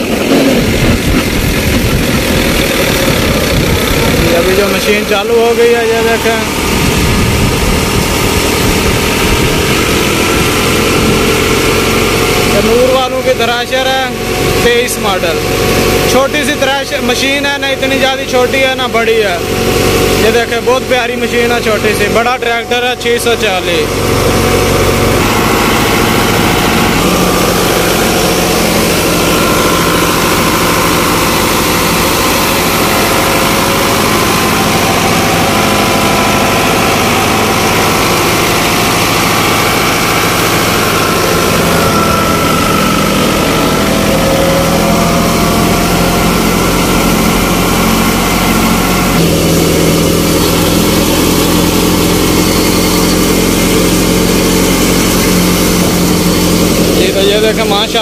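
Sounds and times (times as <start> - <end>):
thresher drum and belts running: 0.0 - 58.0
tractor diesel engine running: 0.0 - 58.0.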